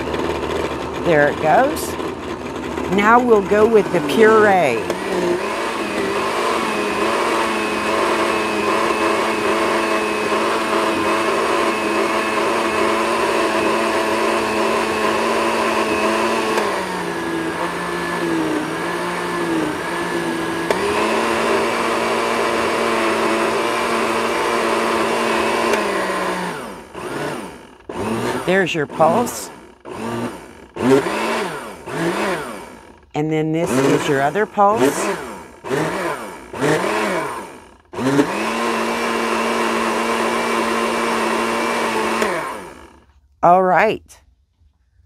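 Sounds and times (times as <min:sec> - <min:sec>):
blender motor whine: 0:00.0 - 0:43.2.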